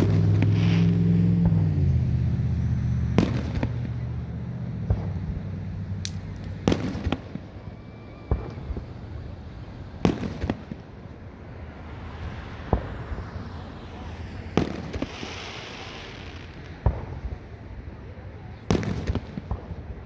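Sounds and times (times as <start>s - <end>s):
vehicle engine hum: 0.0s - 19.4s
fireworks bangs: 0.0s - 20.0s.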